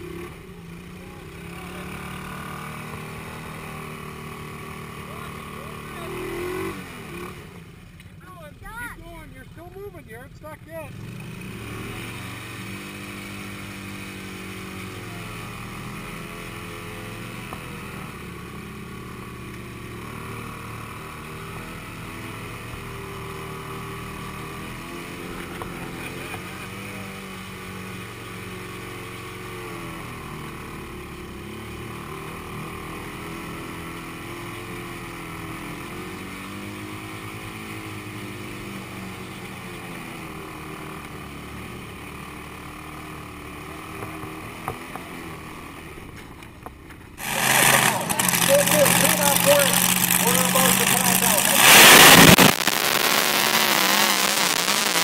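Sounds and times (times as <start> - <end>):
quad bike engine revving: 0.0 - 8.2, 10.8 - 46.2, 47.2 - 55.0.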